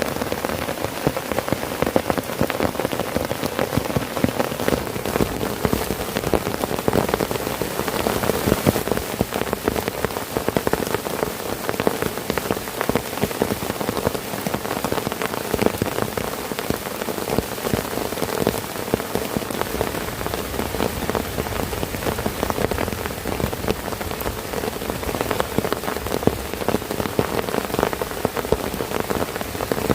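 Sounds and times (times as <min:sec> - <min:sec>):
heavy rain on a tent: 0:00.0 - 0:29.9.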